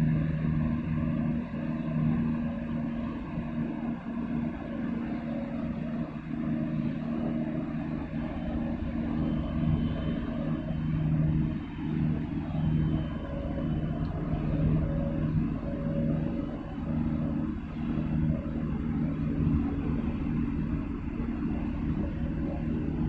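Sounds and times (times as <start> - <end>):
ship engines droning: 0.0 - 23.0.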